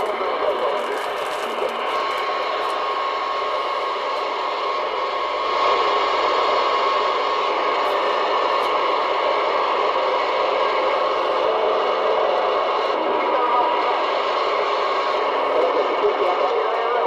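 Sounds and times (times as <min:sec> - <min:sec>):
radio static hiss: 0:00.0 - 0:05.1, 0:07.7 - 0:17.0.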